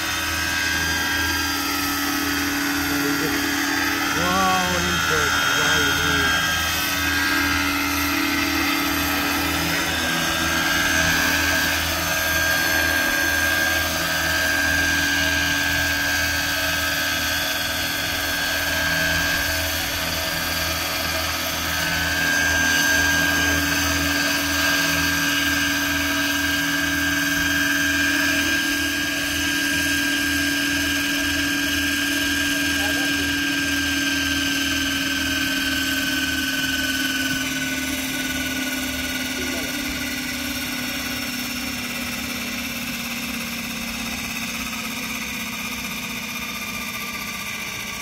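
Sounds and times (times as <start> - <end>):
model helicopter rotors whining: 0.0 - 48.0.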